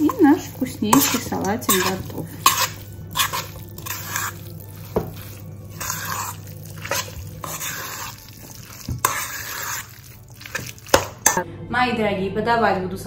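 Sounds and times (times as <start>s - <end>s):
spoon mixing wet salad: 0.0s - 11.4s.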